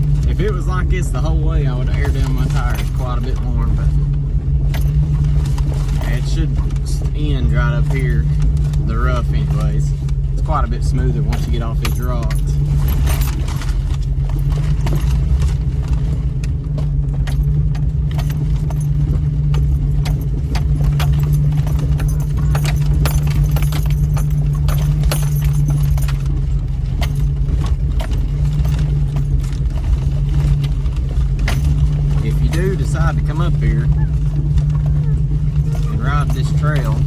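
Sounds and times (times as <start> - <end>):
clacks and jangling rattles: 0.0 - 37.0
low engine drone: 0.0 - 37.0.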